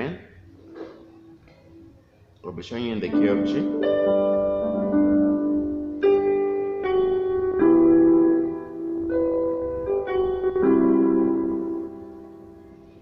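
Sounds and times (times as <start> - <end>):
piano playing slow chords: 0.0 - 13.0.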